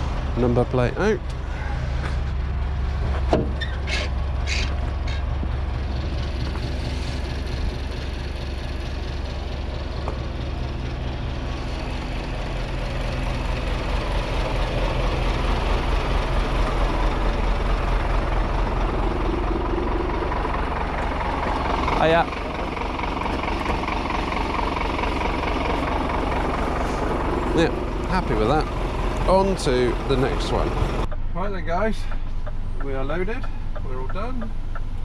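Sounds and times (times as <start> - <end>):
diesel truck engine idling: 0.0 - 35.0
low pulsing: 0.0 - 35.0.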